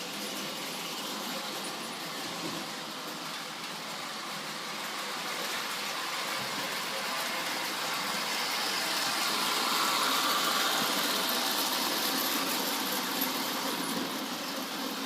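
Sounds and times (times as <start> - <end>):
toy train running on track: 0.0 - 15.0.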